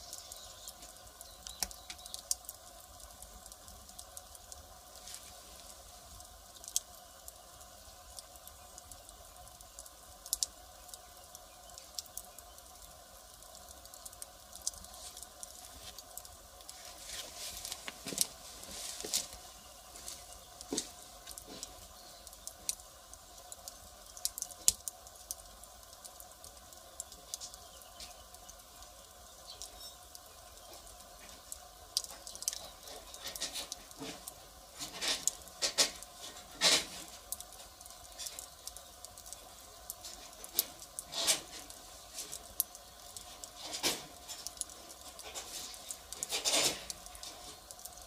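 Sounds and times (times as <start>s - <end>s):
firewood fire crackling: 0.0s - 48.0s.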